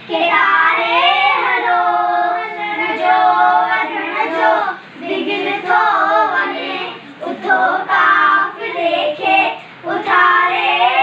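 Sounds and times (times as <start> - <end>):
children singing: 0.0 - 11.0.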